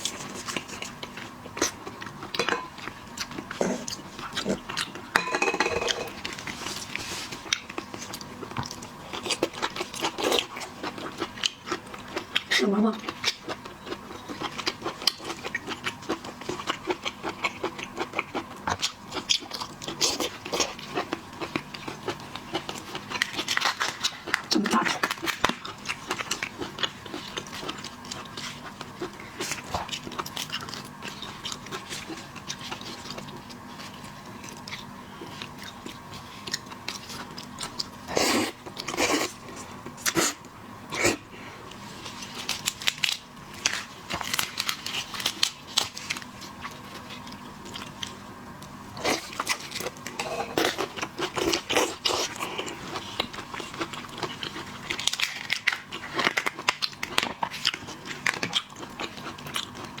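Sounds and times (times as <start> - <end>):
person chewing crunchy shellfish: 0.0 - 60.0.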